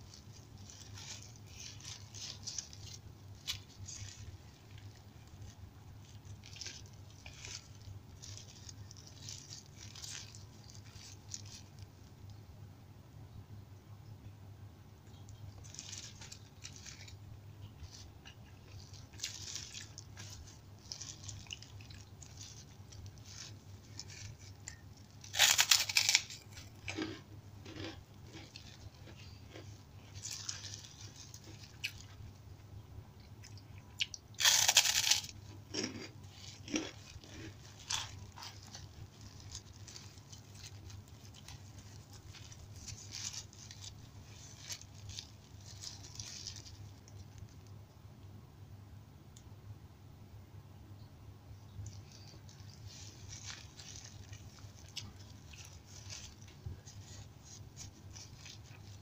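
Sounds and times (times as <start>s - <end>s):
crisp crackly bursts: 0.0s - 12.4s, 15.0s - 32.4s, 33.4s - 47.7s, 51.7s - 59.0s
gloved hand squishing food: 0.0s - 12.4s, 15.0s - 47.9s, 51.6s - 59.0s.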